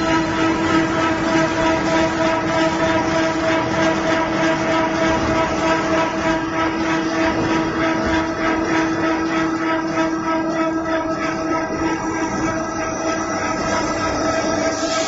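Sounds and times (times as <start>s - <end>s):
machine drive humming: 0.0s - 15.0s
mechanical clatter: 0.0s - 15.0s.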